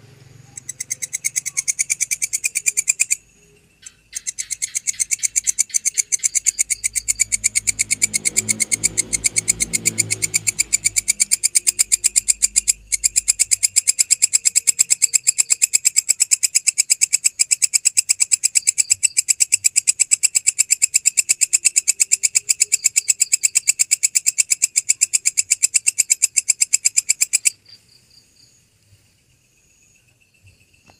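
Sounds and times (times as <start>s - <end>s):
faint high insect chirping: 0.0s - 30.9s
insect pulsing trill: 0.0s - 30.9s.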